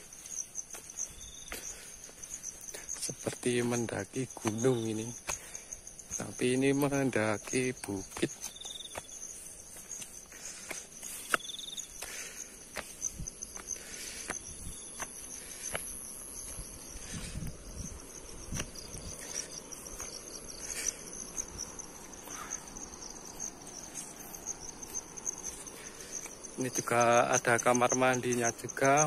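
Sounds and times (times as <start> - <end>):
footsteps on dirt path: 0.0 - 29.0
insects chirring: 0.0 - 29.0.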